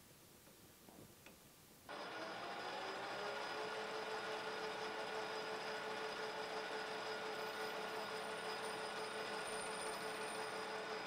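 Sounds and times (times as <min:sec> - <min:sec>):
metal lathe whine: 0:01.9 - 0:11.0.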